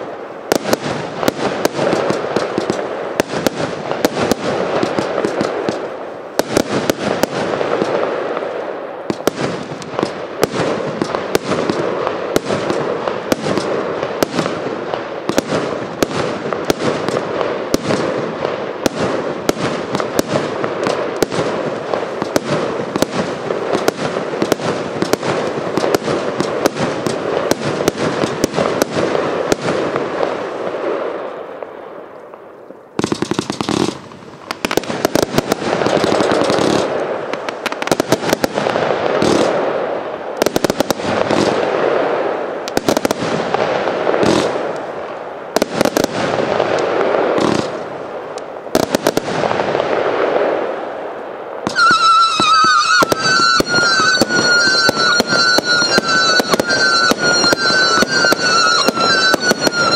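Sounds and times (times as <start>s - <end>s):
firework barrage shots and bangs: 0.0s - 31.9s, 33.0s - 59.9s.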